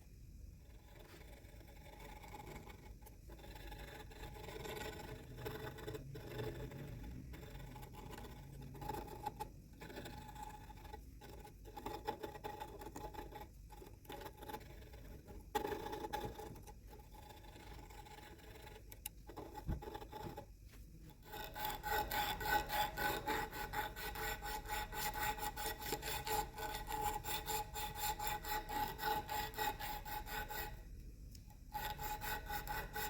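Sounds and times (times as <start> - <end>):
faint steady hum: 0.0 - 33.0
tool scraping on wood: 0.7 - 30.9, 31.6 - 33.0.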